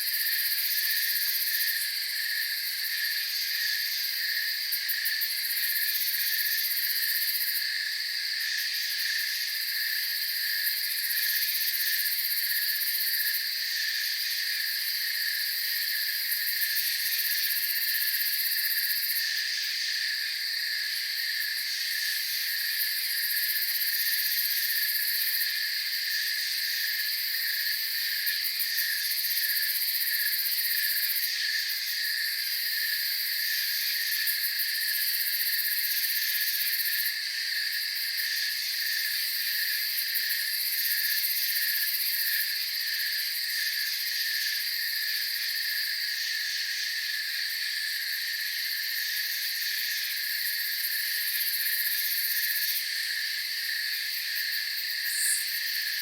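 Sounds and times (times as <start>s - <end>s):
crickets trilling: 0.0s - 56.0s
low pulsing cricket chirp: 0.0s - 56.0s.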